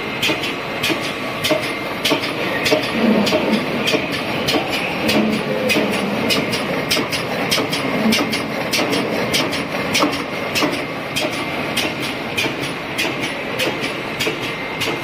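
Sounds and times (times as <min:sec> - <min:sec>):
die cutter clacking rhythmically: 0:00.1 - 0:15.0.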